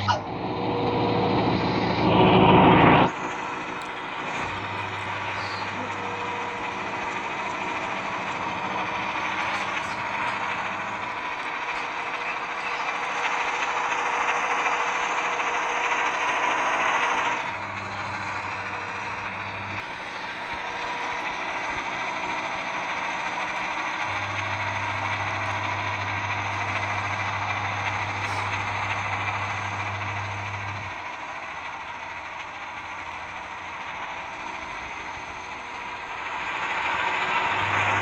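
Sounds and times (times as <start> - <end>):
heavy truck engine droning: 0.0 - 38.0.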